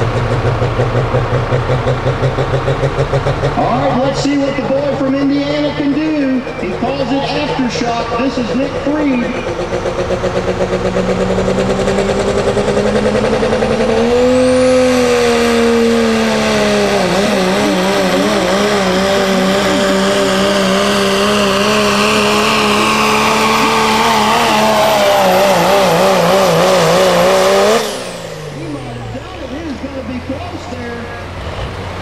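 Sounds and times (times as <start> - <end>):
diesel truck engine at full throttle: 0.0 - 32.0
high turbo whine: 0.0 - 32.0.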